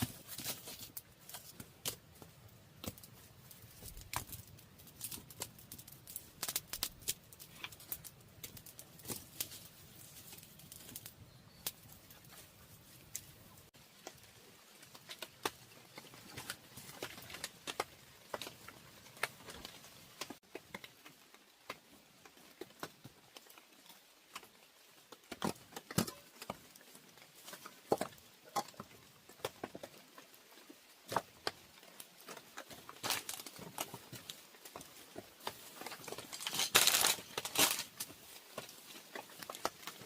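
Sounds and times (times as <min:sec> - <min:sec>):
raindrops pattering: 0:01.4 - 0:11.9, 0:13.1 - 0:40.0.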